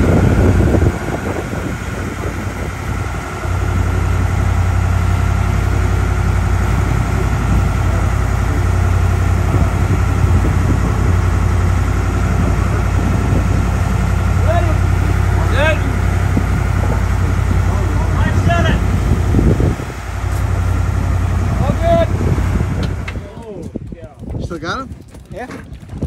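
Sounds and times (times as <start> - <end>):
rushing water wash: 0.0 - 23.5
boat engine running: 0.0 - 26.0.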